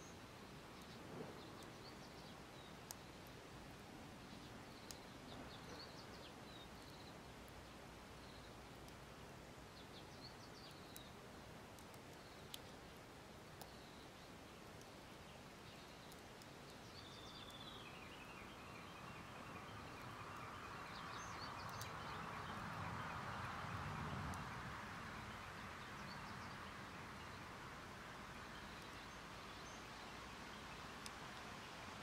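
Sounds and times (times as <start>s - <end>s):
small birds chirping: 0.0s - 32.0s
wood fire crackling: 0.0s - 32.0s.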